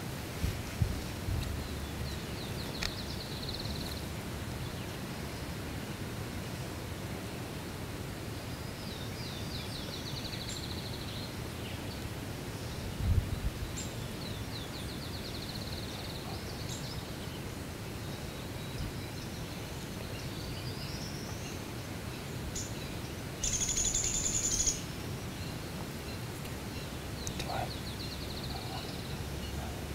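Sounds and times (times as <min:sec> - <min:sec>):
steady outdoor hiss: 0:00.0 - 0:29.9
songbirds trilling: 0:01.4 - 0:05.6, 0:08.4 - 0:29.9.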